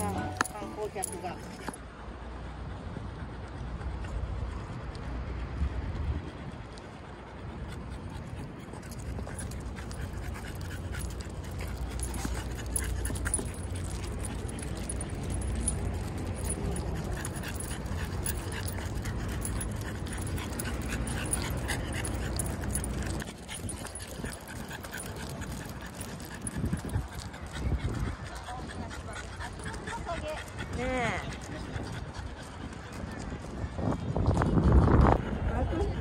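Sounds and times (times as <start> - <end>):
dog panting: 0.0 - 1.8, 3.0 - 33.5
low steady rumble: 0.0 - 32.6.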